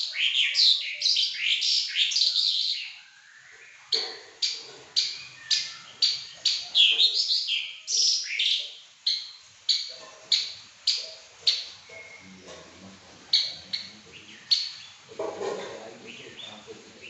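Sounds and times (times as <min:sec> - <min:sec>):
songbird chirping and warbling: 0:00.0 - 0:17.0.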